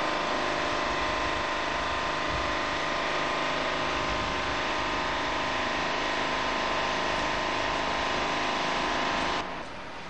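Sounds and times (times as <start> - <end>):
van engine idling: 0.0 - 10.0.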